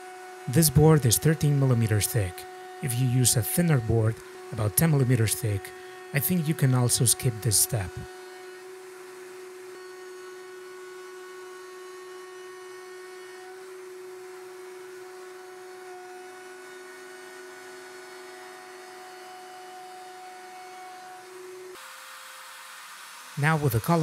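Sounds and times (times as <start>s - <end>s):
router motor whine: 0.0s - 24.0s.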